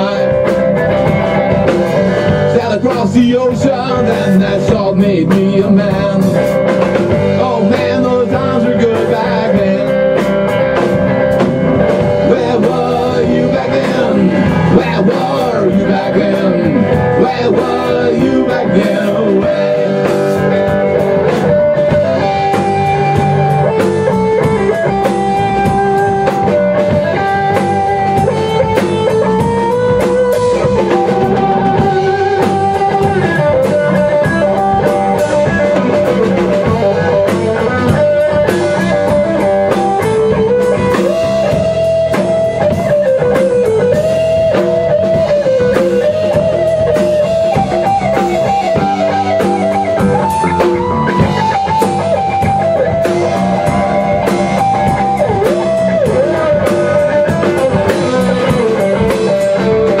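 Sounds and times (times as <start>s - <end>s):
bass guitar: 0.0s - 60.0s
drum kit: 0.0s - 60.0s
electric guitar lead with bent notes: 0.0s - 60.0s.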